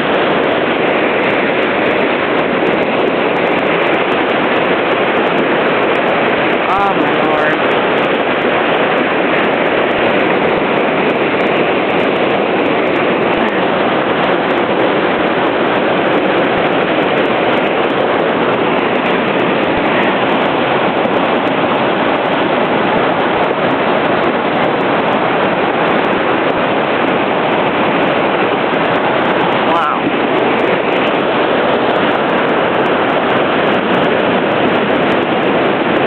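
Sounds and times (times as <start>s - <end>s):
turbulent water rushing: 0.0s - 36.0s.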